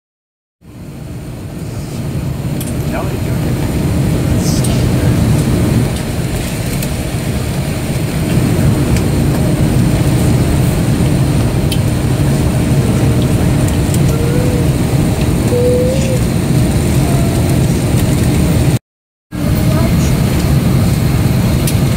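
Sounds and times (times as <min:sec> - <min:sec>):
airliner cabin rumble: 0:00.7 - 0:18.8, 0:19.4 - 0:21.9.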